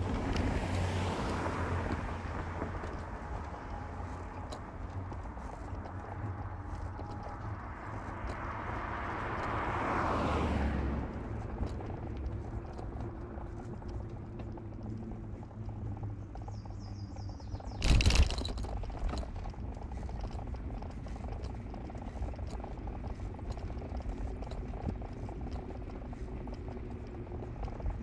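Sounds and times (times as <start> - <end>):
road and engine noise: 0.0 - 28.0.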